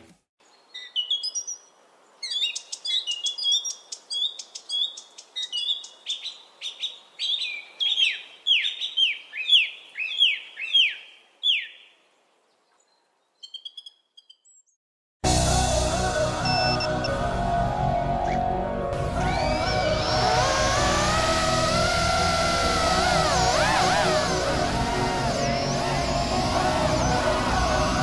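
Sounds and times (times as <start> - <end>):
bird singing: 0.4 - 14.8, 19.3 - 28.0.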